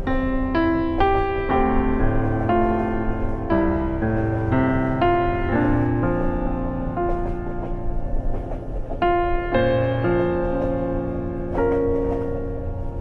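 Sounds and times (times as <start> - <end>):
gentle solo piano: 0.0 - 13.0
steady low rumble: 0.0 - 13.0.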